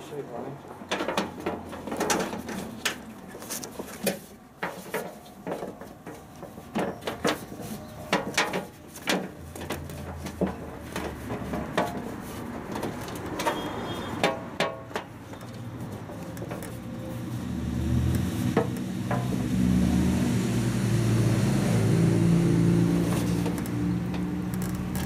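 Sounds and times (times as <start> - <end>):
clunks clicks and scraping: 0.7 - 19.4, 23.0 - 25.0.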